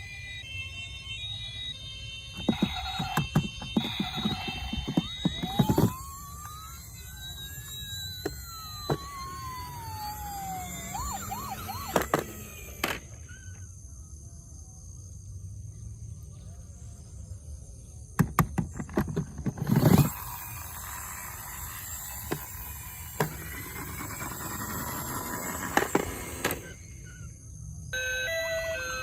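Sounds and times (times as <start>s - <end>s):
toy electronic siren: 0.0s - 13.8s, 18.2s - 29.0s.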